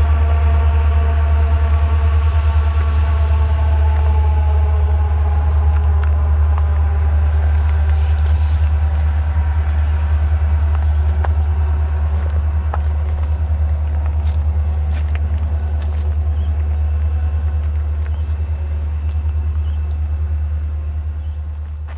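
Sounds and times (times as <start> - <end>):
diesel locomotive engines droning: 0.0 - 21.9.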